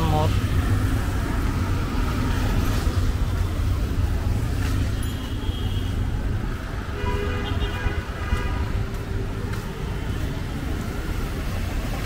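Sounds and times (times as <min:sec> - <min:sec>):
low traffic rumble: 0:00.0 - 0:12.0
vehicles passing: 0:00.0 - 0:12.0.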